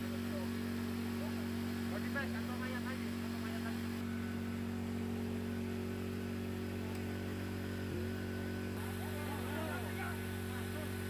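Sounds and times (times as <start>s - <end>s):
machine humming low: 0.0s - 11.0s.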